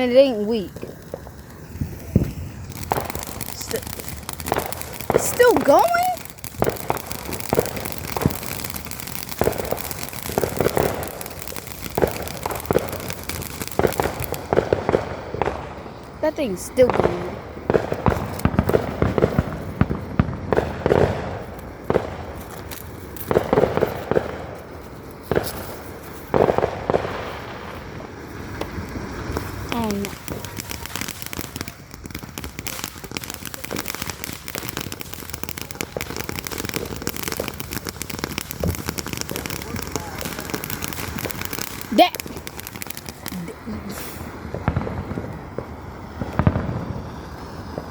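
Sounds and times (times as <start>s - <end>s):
firework crackling and popping: 0.0s - 47.9s.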